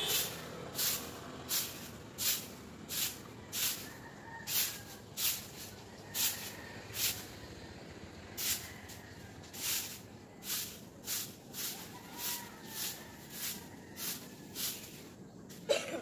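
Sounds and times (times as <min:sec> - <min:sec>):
broom sweeping wet concrete: 0:00.0 - 0:07.6, 0:08.3 - 0:15.8.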